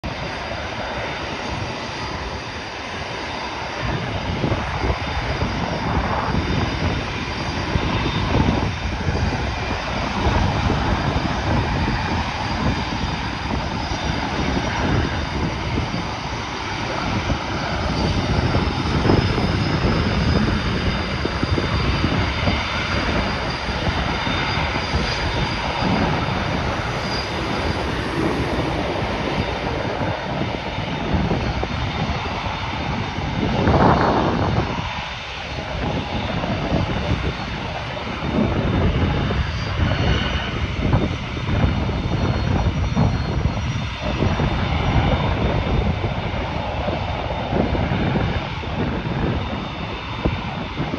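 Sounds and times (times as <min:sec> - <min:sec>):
jet engines taxiing: 0:00.0 - 0:50.9.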